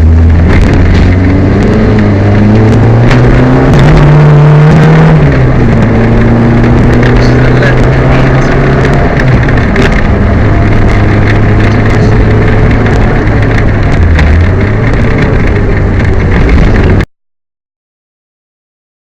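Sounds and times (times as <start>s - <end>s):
rally car engine misfiring: 0.0s - 17.1s
sharp ticks and knocks: 0.0s - 17.1s.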